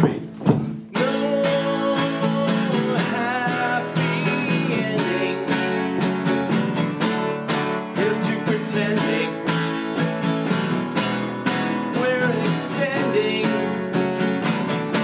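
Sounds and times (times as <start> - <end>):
cajon beat: 0.0 - 15.0
strummed acoustic guitars: 0.0 - 15.0.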